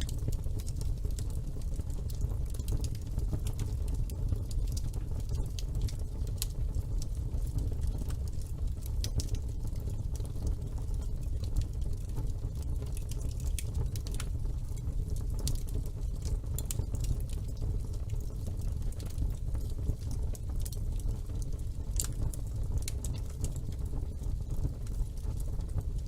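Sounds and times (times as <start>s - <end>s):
fire crackles and pops: 0.0s - 26.0s
wood fire flames rumbling: 0.0s - 26.0s.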